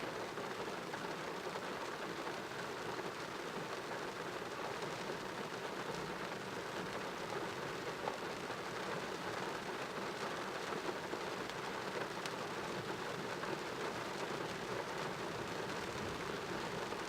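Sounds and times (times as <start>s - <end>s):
heavy rain pattering: 0.1s - 17.0s.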